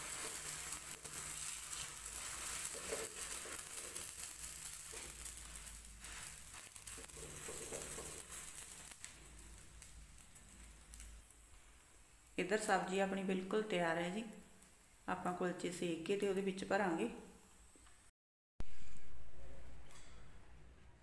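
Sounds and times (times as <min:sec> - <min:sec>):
ghee sizzling on hot griddle: 0:00.0 - 0:18.1.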